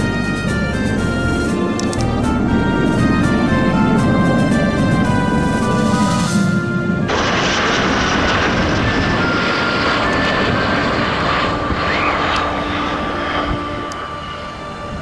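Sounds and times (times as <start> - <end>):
fighter jet engines roaring: 0.0 - 15.0.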